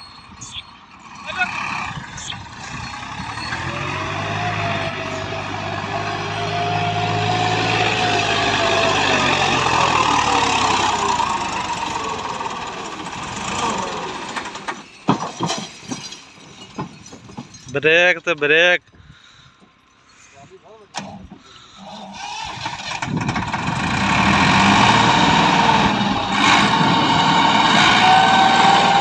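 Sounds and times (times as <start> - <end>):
tractor diesel engine labouring: 0.0 - 29.0.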